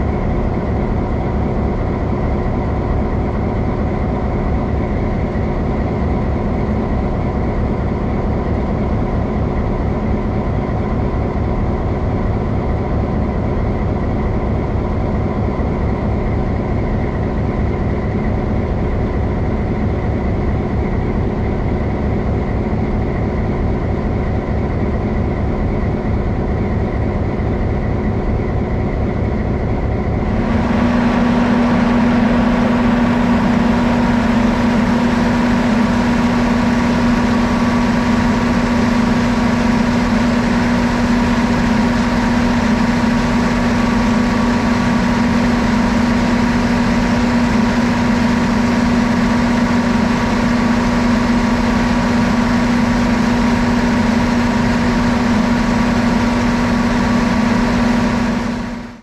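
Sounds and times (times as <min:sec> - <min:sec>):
diesel locomotive idling: 0:00.0 - 0:59.0.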